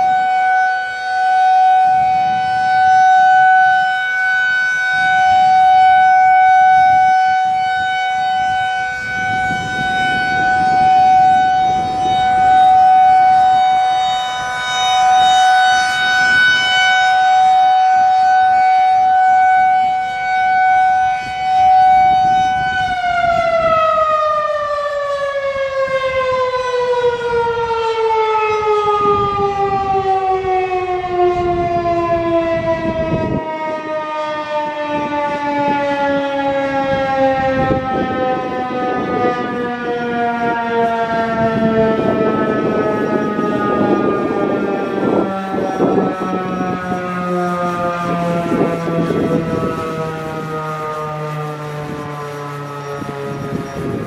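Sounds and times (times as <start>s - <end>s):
rotating warning siren tone: 0.0s - 54.0s
siren winding down: 0.0s - 54.0s.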